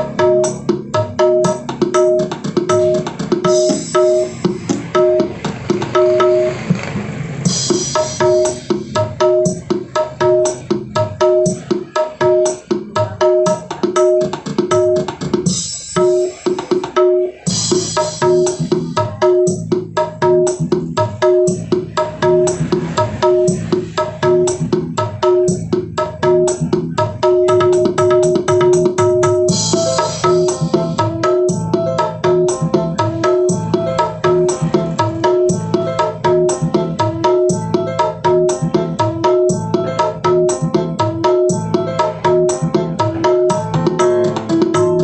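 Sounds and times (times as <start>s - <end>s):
song with drum beat and plucked strings: 0.0s - 45.0s.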